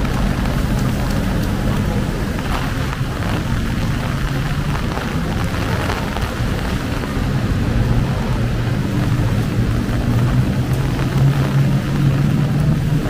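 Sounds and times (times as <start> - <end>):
steady rain falling: 0.0 - 13.0
vehicle engines humming: 0.0 - 13.0.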